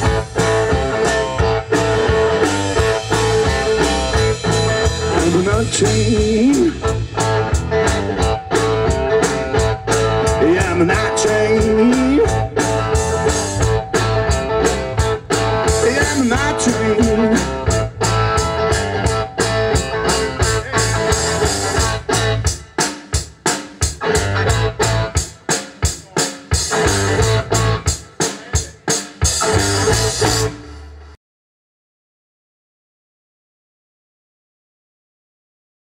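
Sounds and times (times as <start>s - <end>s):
bass line: 0.0s - 22.8s, 23.8s - 25.4s, 26.6s - 31.2s
electric guitar bending notes: 0.0s - 25.8s, 26.5s - 31.2s
drum kit steady beat: 0.0s - 31.1s.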